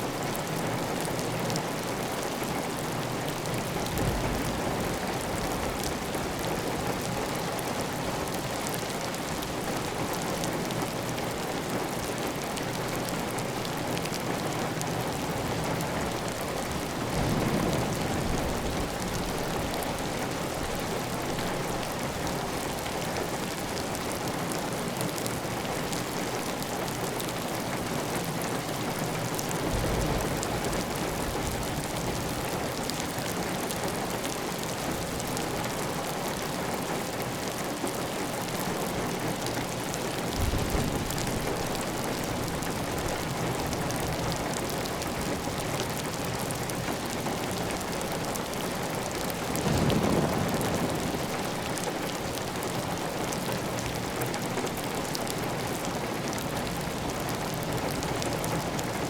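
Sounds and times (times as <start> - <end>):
heavy rain on a tile roof: 0.0 - 59.0.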